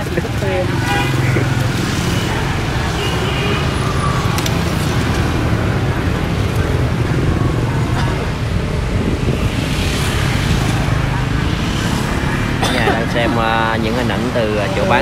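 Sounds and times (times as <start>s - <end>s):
motorbikes and scooters passing: 0.0s - 15.0s.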